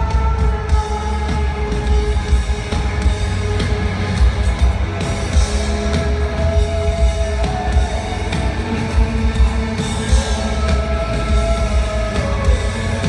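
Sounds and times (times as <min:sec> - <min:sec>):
heavy pounding bass: 0:00.0 - 0:13.0
loud live band music: 0:00.0 - 0:13.0.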